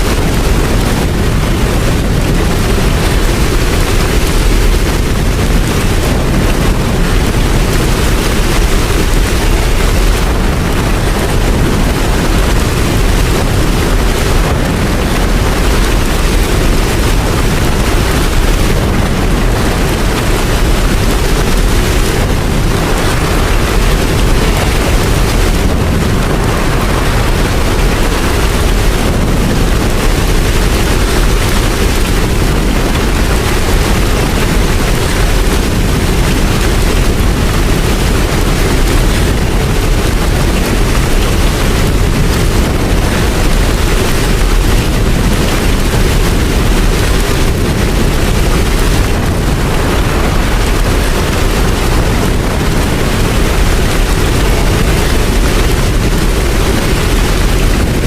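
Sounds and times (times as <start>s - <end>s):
deep low rumble: 0.0s - 58.0s
heavy rain: 0.0s - 58.0s.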